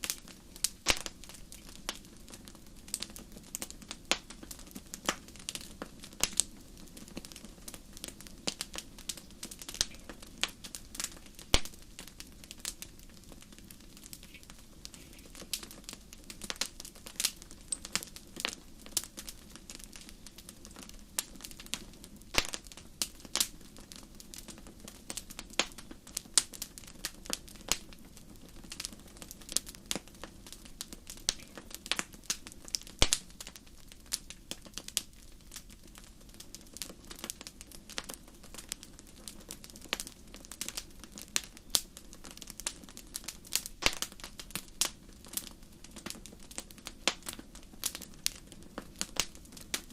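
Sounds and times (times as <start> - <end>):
hiss of burning: 0.0 - 49.9
wood fire crackling and popping: 0.0 - 49.9.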